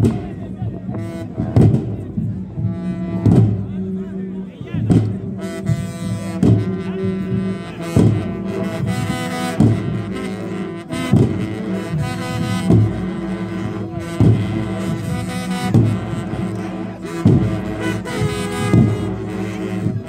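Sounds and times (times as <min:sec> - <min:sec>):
heavy drum beat: 0:00.0 - 0:20.0
low droning procession music: 0:00.0 - 0:20.0.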